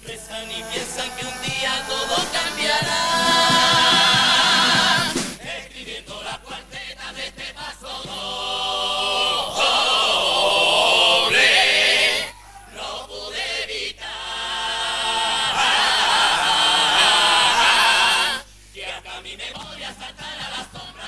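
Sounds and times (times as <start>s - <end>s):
chorus singing together: 0.0s - 21.0s.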